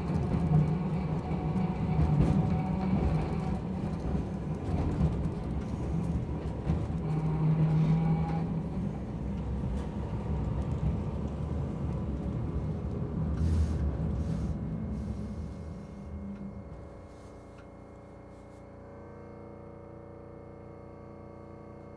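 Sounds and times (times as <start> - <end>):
streetcar motor and wheel rumble: 0.0 - 21.9.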